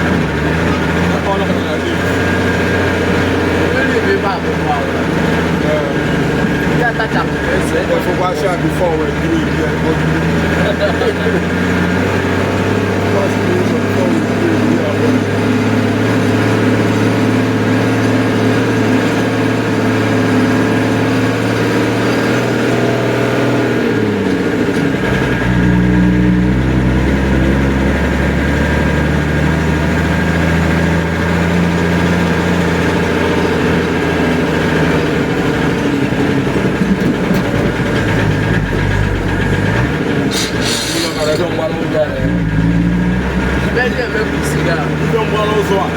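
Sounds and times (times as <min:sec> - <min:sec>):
engine running: 0:00.0 - 0:45.9.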